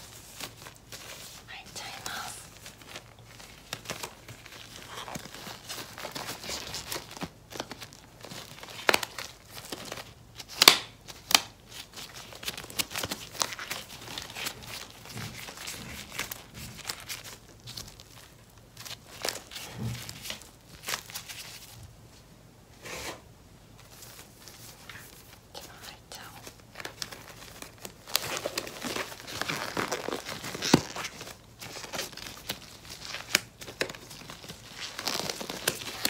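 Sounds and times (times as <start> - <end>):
plastic gloves crinkling: 0.0 - 22.1, 23.7 - 36.0.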